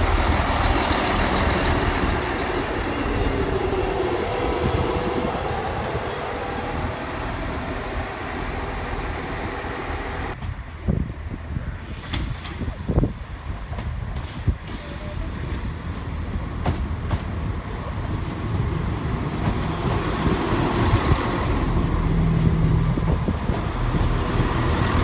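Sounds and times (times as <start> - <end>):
diesel train engines: 0.0 - 25.0
train wheels on rails: 0.0 - 25.0.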